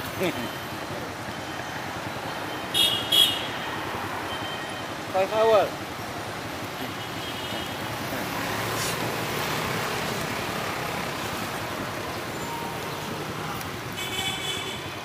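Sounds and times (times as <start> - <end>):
passing motor vehicles: 0.0 - 15.0.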